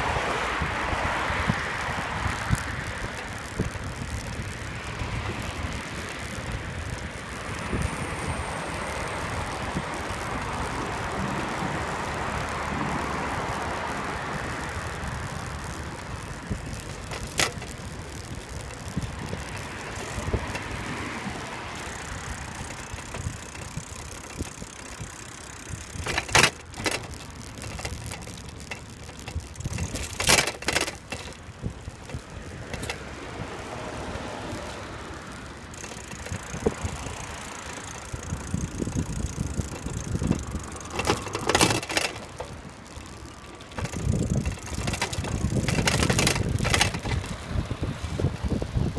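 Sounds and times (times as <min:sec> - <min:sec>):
bicycle rattling over bumps: 0:00.0 - 0:48.9
bicycle tyre rumble on pavement: 0:00.0 - 0:48.9
wind: 0:00.0 - 0:48.9.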